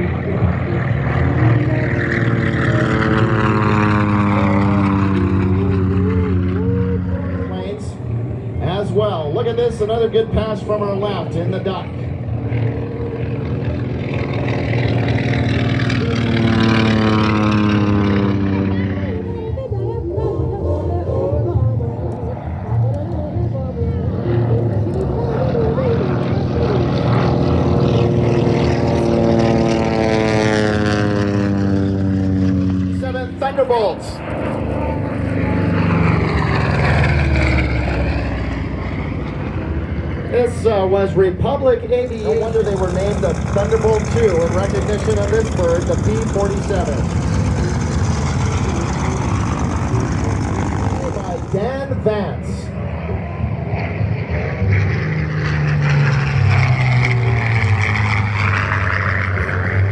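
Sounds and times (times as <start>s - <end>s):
propeller plane flyby: 0.0s - 59.9s
radial aircraft engine droning: 0.0s - 59.9s.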